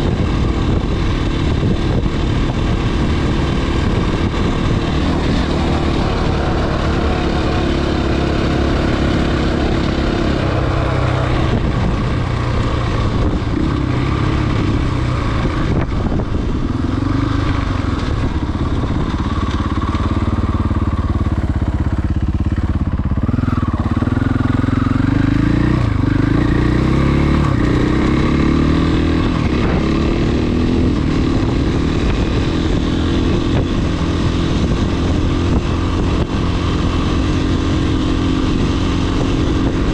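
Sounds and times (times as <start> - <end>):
dirt bike engine revving: 0.0 - 19.2, 23.2 - 39.9.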